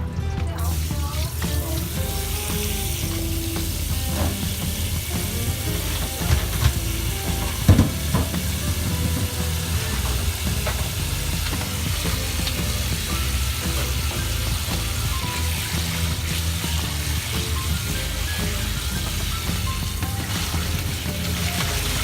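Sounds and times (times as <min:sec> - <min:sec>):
kitchen background hiss: 0:00.6 - 0:22.0.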